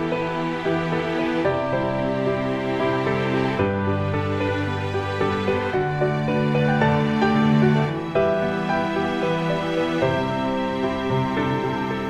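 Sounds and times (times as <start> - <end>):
slow sustained background music: 0.0 - 12.0.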